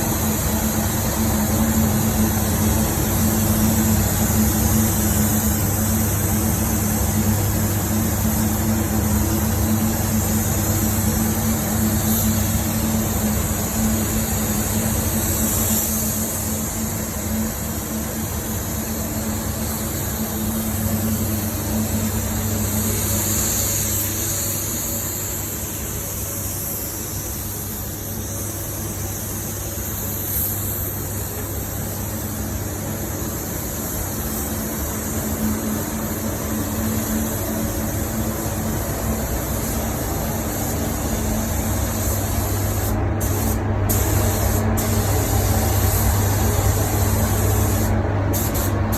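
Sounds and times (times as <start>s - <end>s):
steady mechanical hum with hiss: 0.0s - 48.9s.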